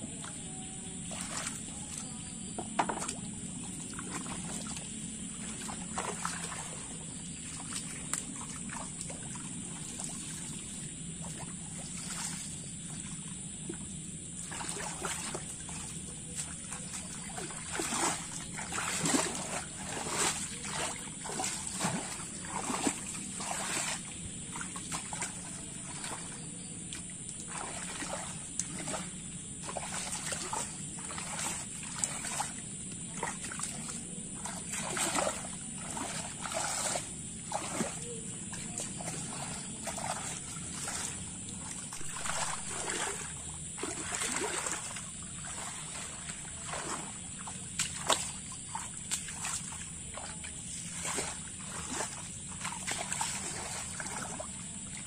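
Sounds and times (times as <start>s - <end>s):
muddy water splashing: 0.0s - 55.0s
trickle of flowing water: 0.2s - 55.0s.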